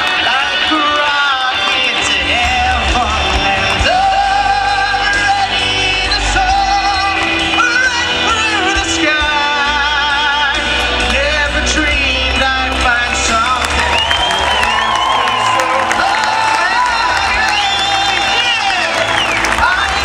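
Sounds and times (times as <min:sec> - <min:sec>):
man singing a pop ballad: 0:00.0 - 0:20.0.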